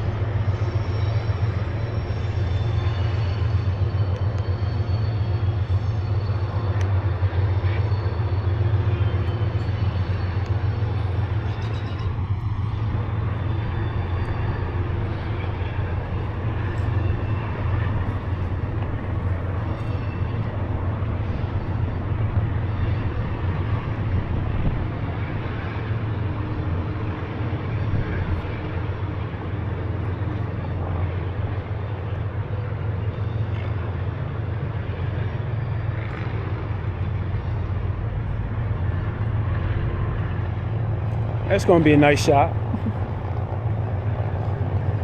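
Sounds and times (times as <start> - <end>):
rushing road and wind noise: 0.0 - 45.0.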